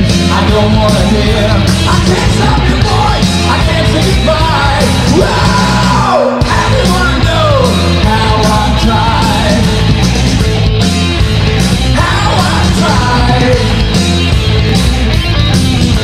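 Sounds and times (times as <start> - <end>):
bass: 0.0 - 16.0
distorted guitars: 0.0 - 16.0
drums: 0.0 - 16.0.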